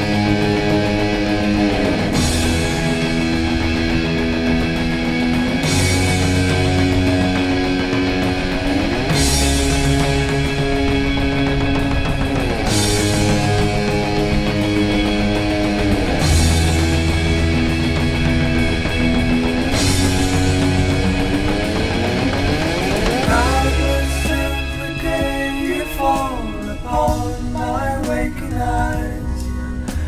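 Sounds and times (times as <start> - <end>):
electric guitar chords: 0.0 - 30.0.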